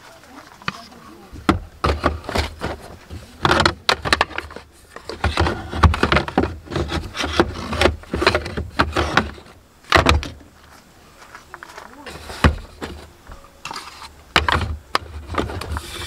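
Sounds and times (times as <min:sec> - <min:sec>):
wooden pieces knocking and scraping: 0:00.4 - 0:16.0.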